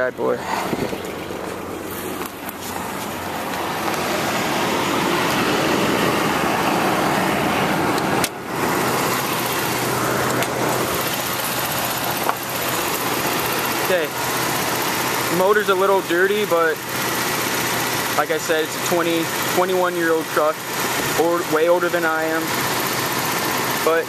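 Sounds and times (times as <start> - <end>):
pickup engine idling: 0.0 - 24.0.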